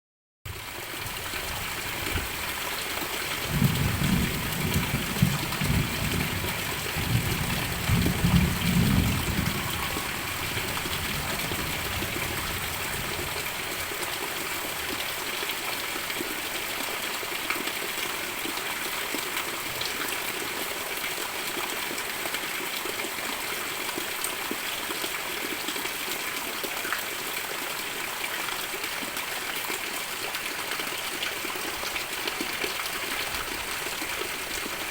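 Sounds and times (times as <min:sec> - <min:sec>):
heavy rain pouring: 0:00.6 - 0:34.9.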